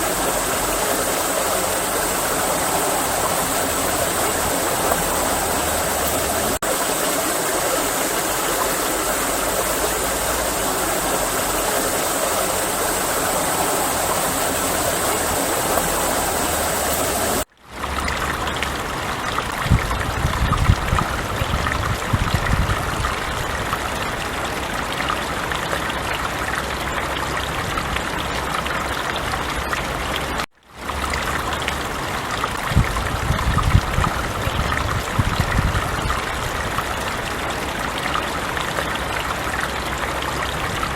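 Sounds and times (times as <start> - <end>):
forest stream running: 0.0 - 40.9.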